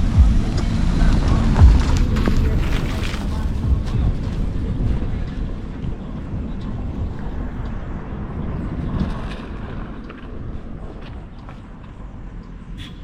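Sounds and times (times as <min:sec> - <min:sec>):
wind buffeting microphone: 0:00.0 - 0:12.8
engine and road noise: 0:00.0 - 0:13.0.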